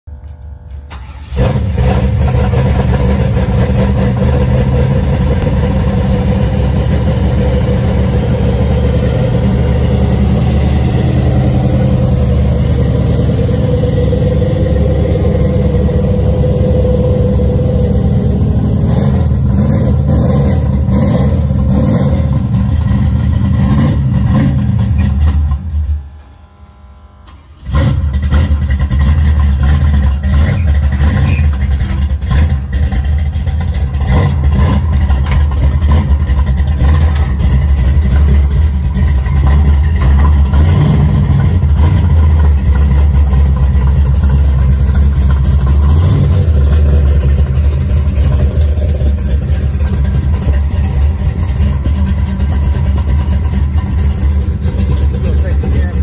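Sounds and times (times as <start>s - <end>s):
car engine running loud: 0.1s - 56.0s.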